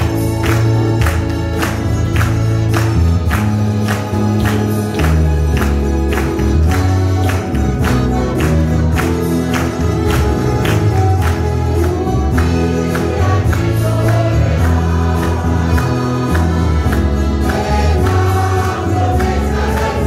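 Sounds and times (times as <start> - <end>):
held bass notes: 0.0 - 20.0
mandolins and guitars strumming: 0.0 - 20.0.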